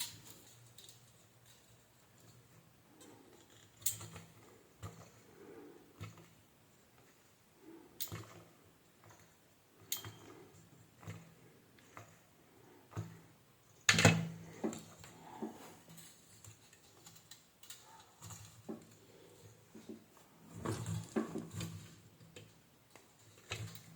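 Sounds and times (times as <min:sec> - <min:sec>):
small parts clicking and tapping: 0:00.0 - 0:05.3, 0:08.0 - 0:23.9.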